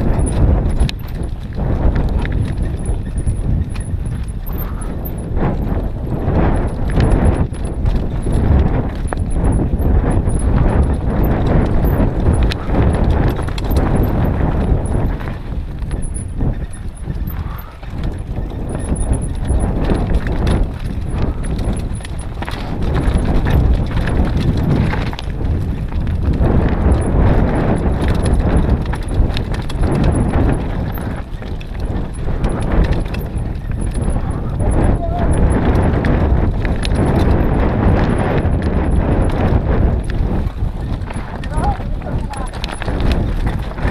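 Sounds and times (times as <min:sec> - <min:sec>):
mountain bike rattling: 0:00.0 - 0:43.9.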